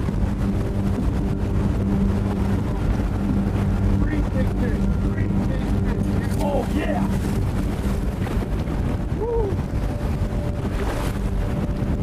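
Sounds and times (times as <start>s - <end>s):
choppy lake water: 0.0s - 12.0s
wind buffeting microphone: 0.0s - 12.0s.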